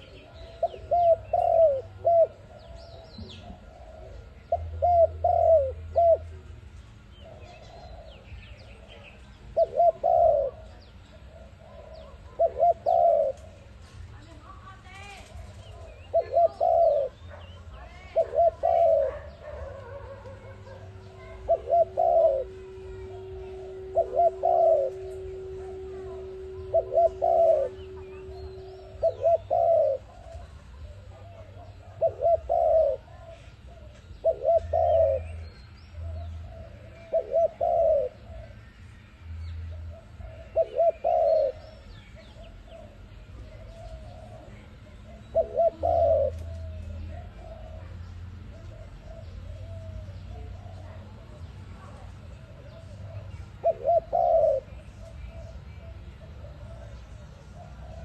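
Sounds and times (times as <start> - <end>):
dove cooing: 0.0 - 58.0
small birds chirping: 0.0 - 58.0
steady low tone: 0.0 - 58.0.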